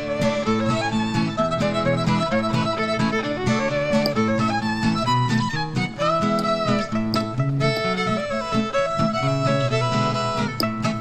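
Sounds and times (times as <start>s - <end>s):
bowed string melody: 0.0s - 11.0s
plucked strings with steady beat: 0.0s - 11.0s.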